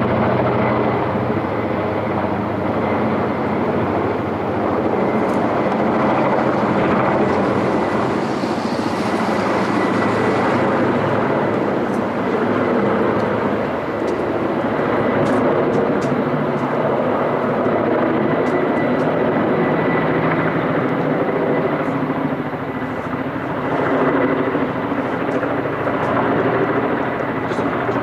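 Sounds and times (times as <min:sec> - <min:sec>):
helicopter hovering: 0:00.0 - 0:28.0.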